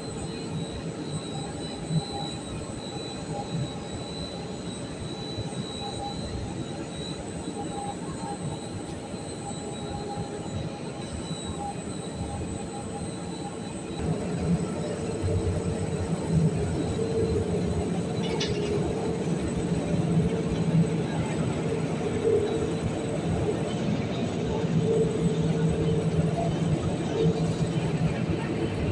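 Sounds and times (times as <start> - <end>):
faint whining tones: 0.0 - 28.9
machinery drone: 0.0 - 28.9.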